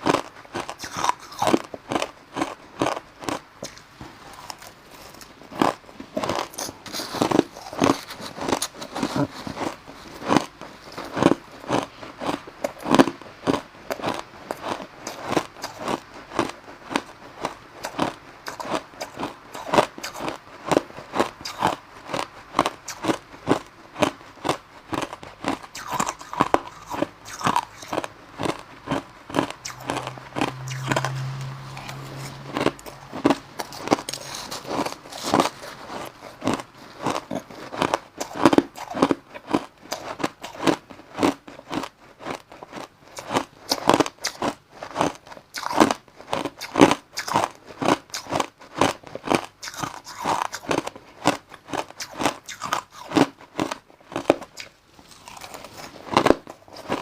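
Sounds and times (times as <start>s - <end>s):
person chewing crushed ice: 0.0s - 57.0s.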